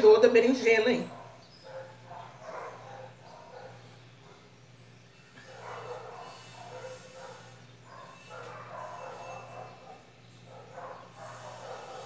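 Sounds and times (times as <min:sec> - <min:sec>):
steady low hum: 0:00.0 - 0:12.0
faint dog barking: 0:01.0 - 0:04.6, 0:05.3 - 0:12.0.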